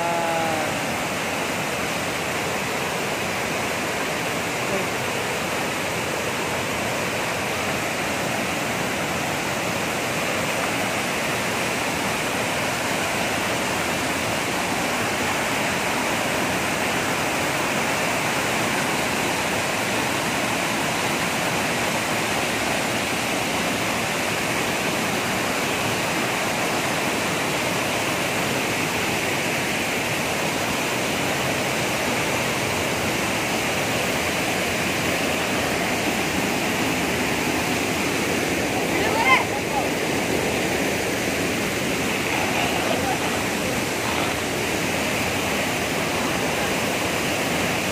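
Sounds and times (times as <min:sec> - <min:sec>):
waterfall rushing over rocks: 0:00.0 - 0:47.9.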